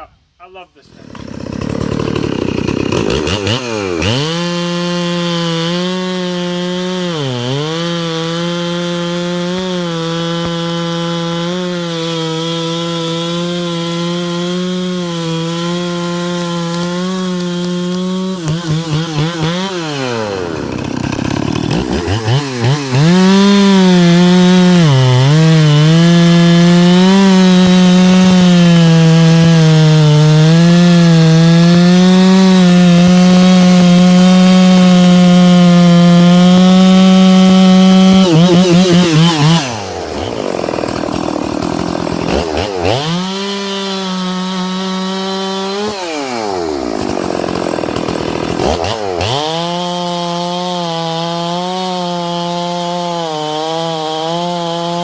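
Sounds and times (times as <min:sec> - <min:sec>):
chainsaw cutting wood: 0:00.8 - 0:55.0.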